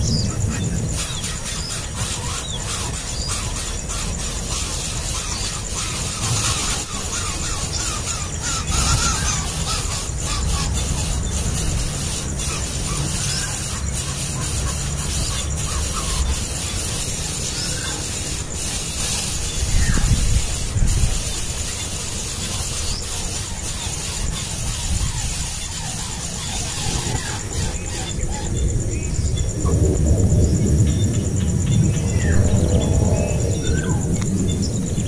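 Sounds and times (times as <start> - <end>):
chicks chirping: 0.0 - 28.5
steady hiss: 0.0 - 35.0.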